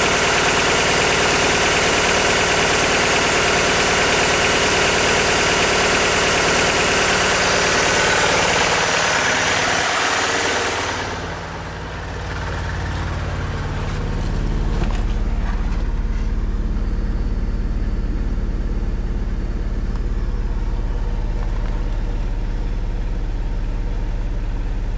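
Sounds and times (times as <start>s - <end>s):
car engine misfiring: 0.1s - 23.0s.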